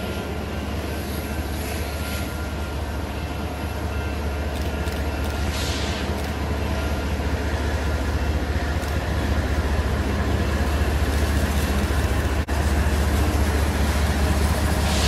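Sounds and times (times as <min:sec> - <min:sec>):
diesel locomotives rumbling: 0:00.0 - 0:15.0.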